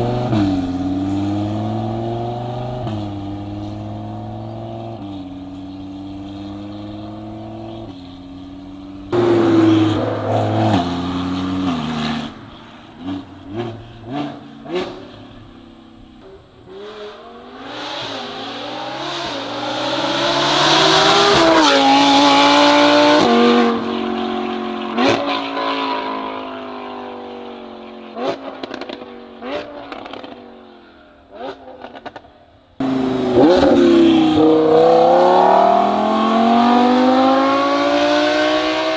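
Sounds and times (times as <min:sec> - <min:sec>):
car engine revving: 0:00.0 - 0:27.0, 0:31.3 - 0:38.9.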